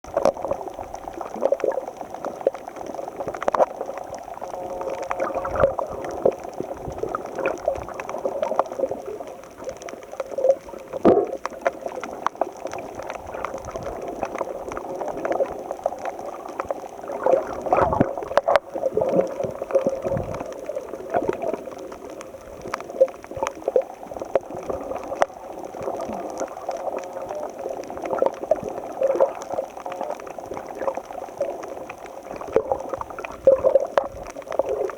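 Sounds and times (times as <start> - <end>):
small underwater crackles and clicks: 0.0 - 34.9
underwater gurgling and sloshing: 0.0 - 34.9.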